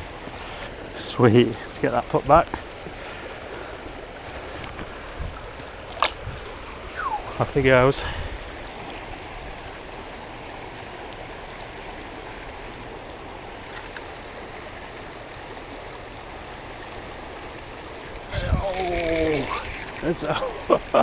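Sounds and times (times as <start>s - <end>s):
river rushing over riffles: 0.0s - 21.0s.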